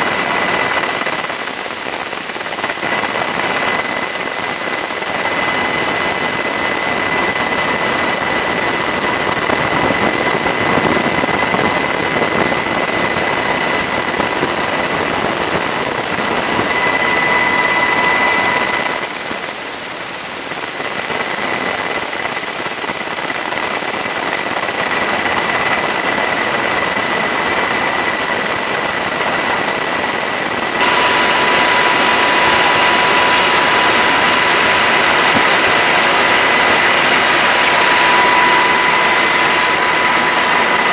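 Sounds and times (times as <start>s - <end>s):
helicopter turbine and rotor noise: 0.0s - 40.9s.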